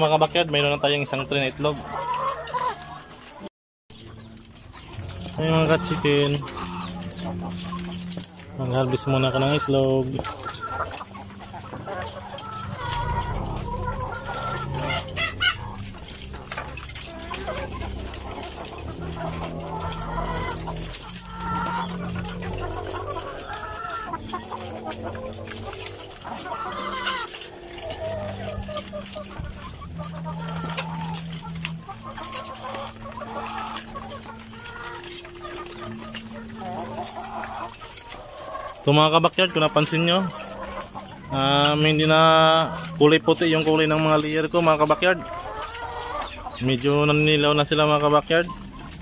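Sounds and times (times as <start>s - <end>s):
hens clucking: 0.0s - 49.0s
low steady hum: 3.2s - 49.0s.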